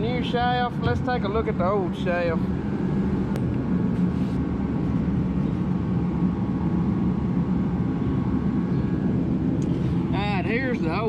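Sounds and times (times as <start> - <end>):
heater running with low hum: 0.0 - 11.0.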